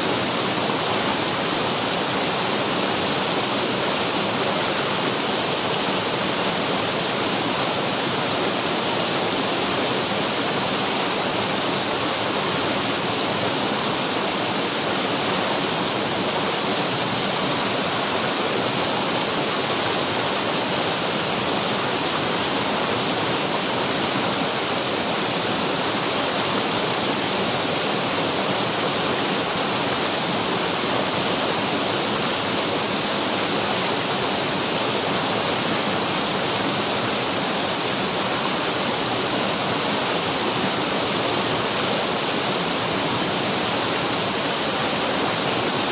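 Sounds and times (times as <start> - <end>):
stream rushing over rocks: 0.0 - 45.9.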